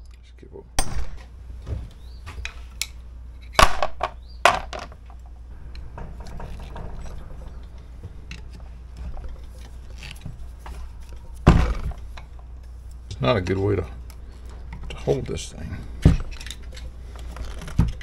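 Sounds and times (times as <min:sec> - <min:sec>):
scraping and handling metal parts: 0:02.4 - 0:18.0.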